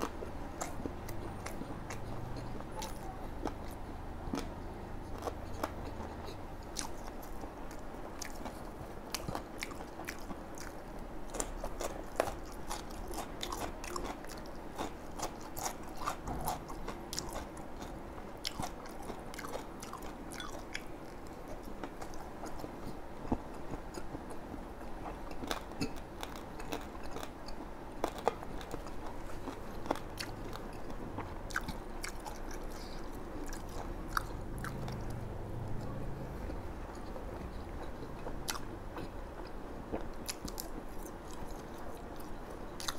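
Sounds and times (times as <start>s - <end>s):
chewing and biting fried food: 0.0s - 42.9s.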